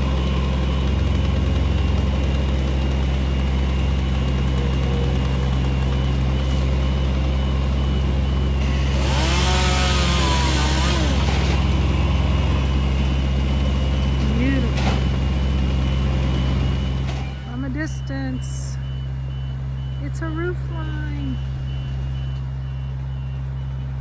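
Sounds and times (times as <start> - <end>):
large engine idling: 0.0 - 24.0.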